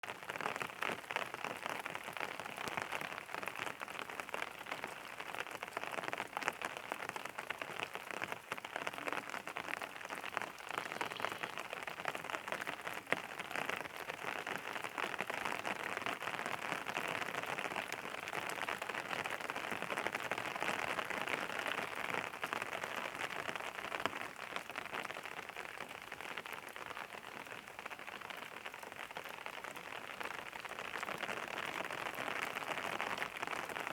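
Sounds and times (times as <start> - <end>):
rain pattering: 0.0 - 33.9.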